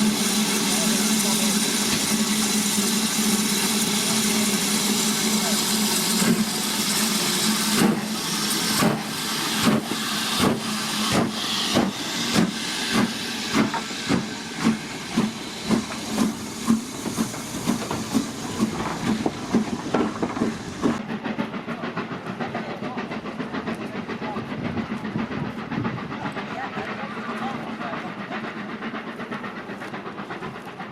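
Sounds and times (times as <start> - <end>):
steam hissing: 0.0 - 30.9
steam locomotive exhaust chuffs: 0.0 - 30.9.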